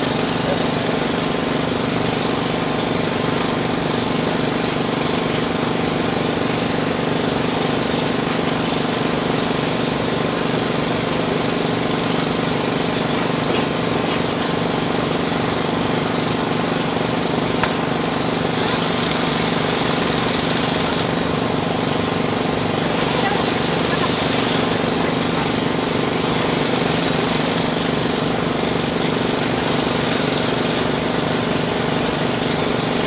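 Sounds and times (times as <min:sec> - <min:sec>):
steady mechanical drone: 0:00.0 - 0:33.0.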